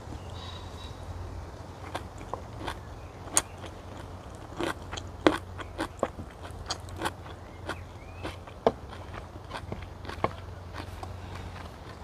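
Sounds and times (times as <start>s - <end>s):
low steady rumble: 0.0s - 12.0s
chewing: 1.7s - 12.0s.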